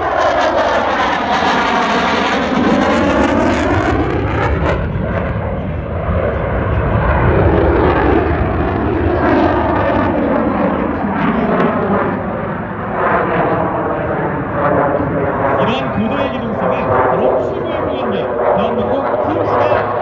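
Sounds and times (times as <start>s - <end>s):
jet engine flying past: 0.0s - 20.0s.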